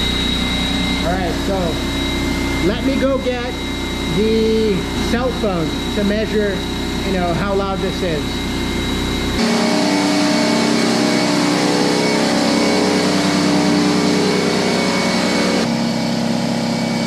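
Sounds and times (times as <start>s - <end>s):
air compressor running: 0.0s - 17.0s.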